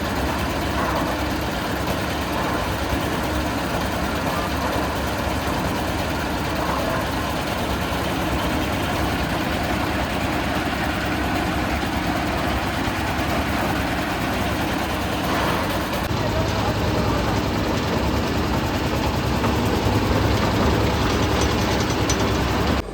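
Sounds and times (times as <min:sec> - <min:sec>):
concrete mixer engine running: 0:00.0 - 0:22.9.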